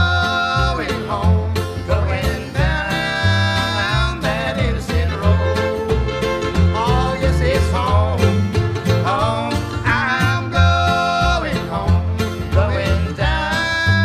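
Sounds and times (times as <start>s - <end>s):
bass notes: 0.0s - 14.0s
fiddle melody: 0.0s - 14.0s
plucked strings rhythm: 0.0s - 14.0s.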